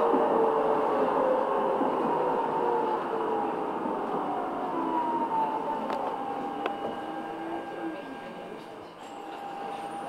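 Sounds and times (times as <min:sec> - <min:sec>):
tram electric drive whine: 0:00.0 - 0:10.0
wheels rumbling on rail: 0:00.0 - 0:10.0.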